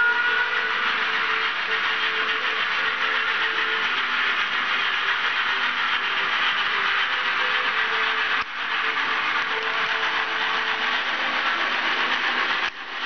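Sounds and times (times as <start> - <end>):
steam locomotive hissing from speaker: 0.0 - 13.0.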